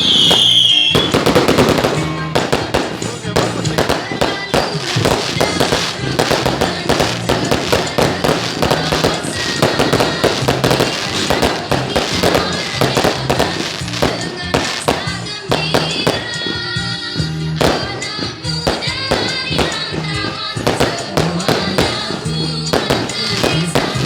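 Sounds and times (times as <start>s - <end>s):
fireworks bangs and cracks: 0.0s - 24.0s
music playing: 0.0s - 24.0s.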